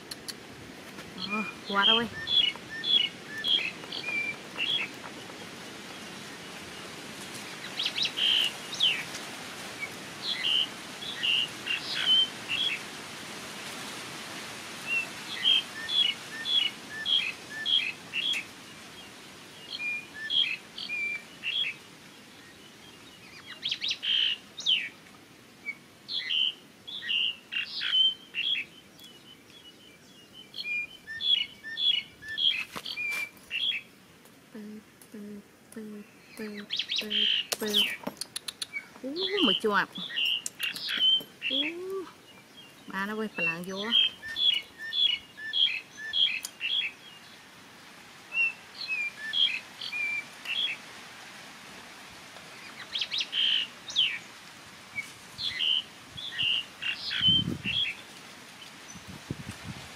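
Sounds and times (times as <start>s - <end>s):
birds chirping: 0.0s - 12.9s, 14.8s - 47.6s, 48.3s - 50.8s, 52.5s - 54.4s, 55.0s - 59.2s.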